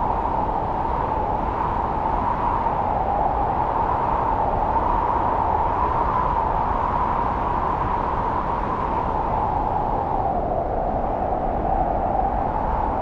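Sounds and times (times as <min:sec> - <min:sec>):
strong wind through trees: 0:00.0 - 0:13.0.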